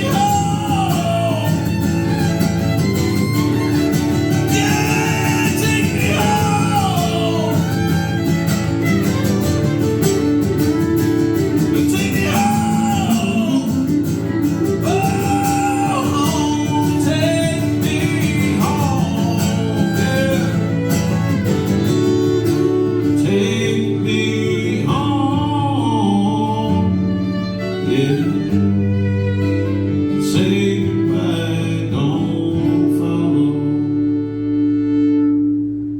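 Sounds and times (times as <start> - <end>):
country band playing: 0.0 - 32.4
fiddle melody: 0.0 - 35.9
strummed acoustic guitar: 0.0 - 35.9.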